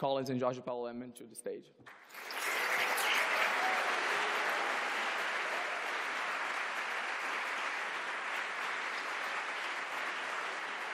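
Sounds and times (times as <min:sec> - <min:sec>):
audience applauding: 0:01.9 - 0:10.9.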